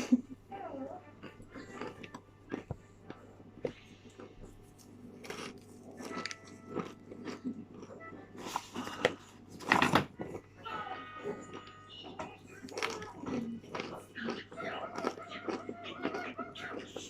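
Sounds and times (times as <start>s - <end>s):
crunching hard food: 1.2s - 10.6s, 11.2s - 17.0s.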